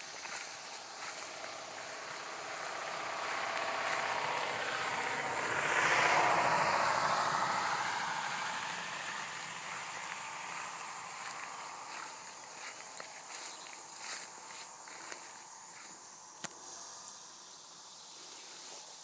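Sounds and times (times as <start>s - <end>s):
motor vehicle passing by: 0.0s - 19.0s.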